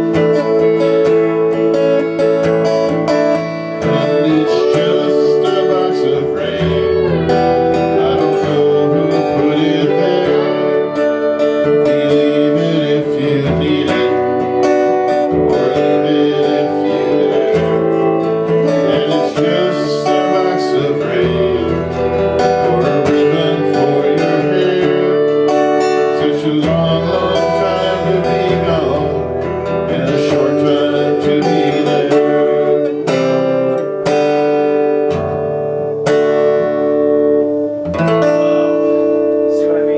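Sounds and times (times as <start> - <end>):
person singing: 0.0 - 34.1
acoustic guitar strummed and picked: 0.0 - 39.9.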